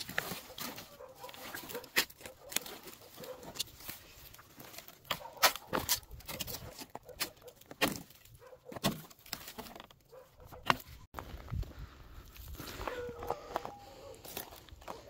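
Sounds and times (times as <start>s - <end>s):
footsteps crunching on twigs: 0.0s - 8.4s, 10.6s - 15.0s
dry branch cracking and scraping: 0.0s - 11.4s, 12.2s - 15.0s.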